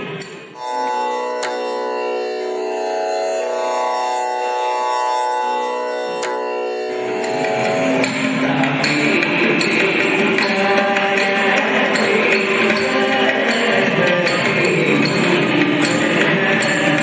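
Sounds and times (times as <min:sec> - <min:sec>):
steady drone chord: 0:00.0 - 0:17.0.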